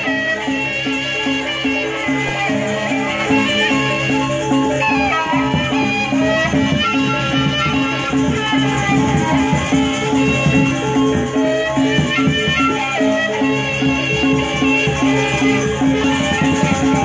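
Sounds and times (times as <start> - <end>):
traditional ensemble music: 0.0 - 17.0.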